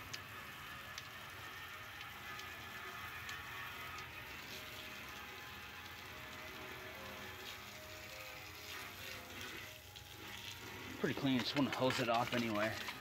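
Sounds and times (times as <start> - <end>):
hose spraying water on metal: 0.0 - 13.0.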